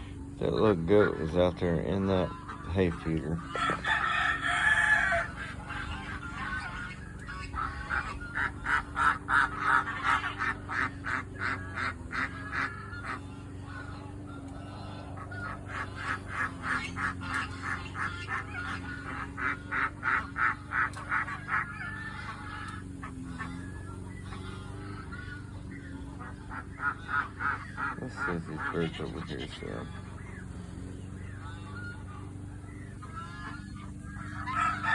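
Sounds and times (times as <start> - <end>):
geese honking: 0.0 - 34.9.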